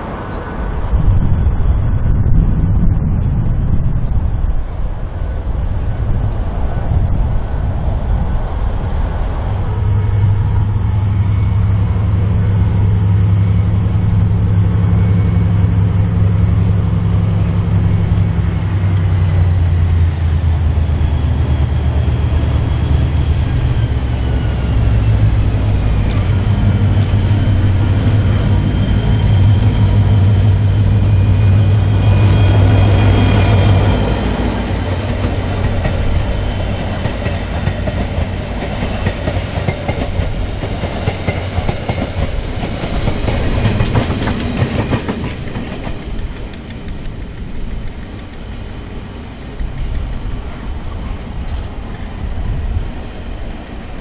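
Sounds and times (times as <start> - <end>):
train wheels clattering on rails: 0.0 - 52.0
diesel locomotive engine droning: 0.0 - 54.0.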